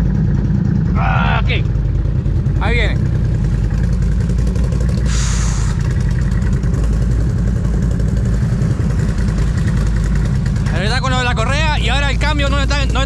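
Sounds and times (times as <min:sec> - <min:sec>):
atv engines idling: 0:00.0 - 0:13.0.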